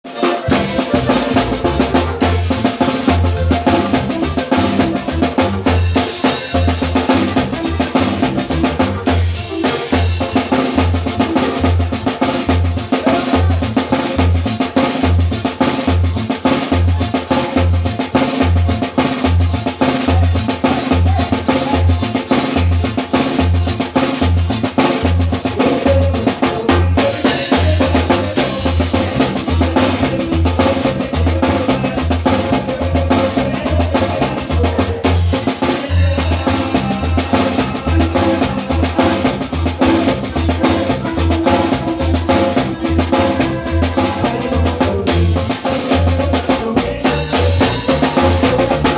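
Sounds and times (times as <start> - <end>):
drum kit busy rhythm: 0.0 - 48.9
norteno music: 0.0 - 48.9.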